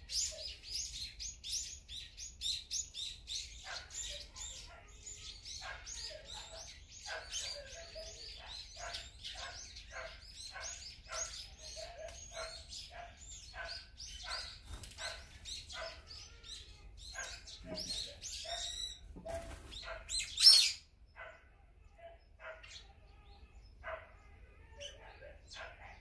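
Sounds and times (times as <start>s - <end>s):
wild birds chirping: 0.0s - 26.0s.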